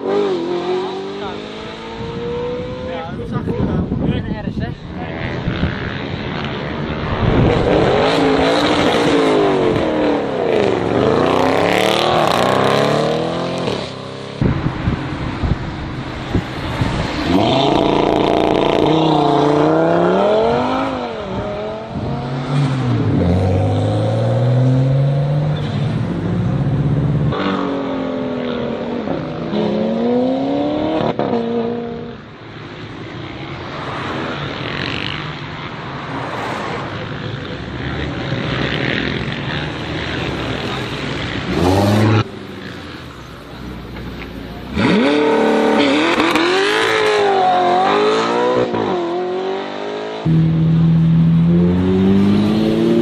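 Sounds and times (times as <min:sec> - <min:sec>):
car engines accelerating hard: 0:00.0 - 0:53.0.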